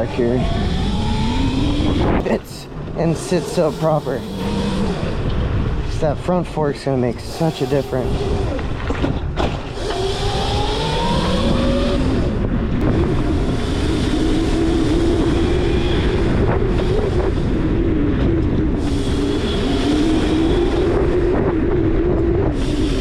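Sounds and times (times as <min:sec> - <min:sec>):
electric motor whine: 0:00.0 - 0:05.8, 0:07.2 - 0:17.8, 0:18.8 - 0:23.0
low rushing ride noise: 0:00.0 - 0:23.0.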